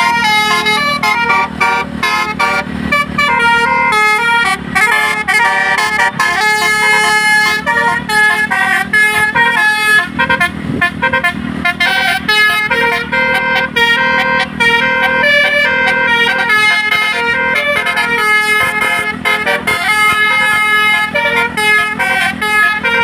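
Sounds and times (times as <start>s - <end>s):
musical bus horn melody: 0.0s - 23.0s.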